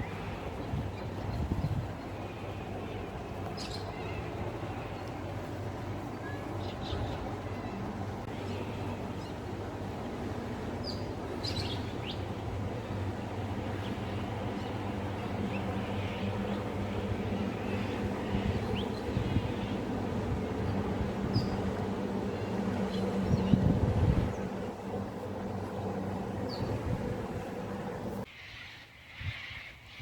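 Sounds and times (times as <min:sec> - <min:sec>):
motorboat engine drone: 0:00.0 - 0:28.3.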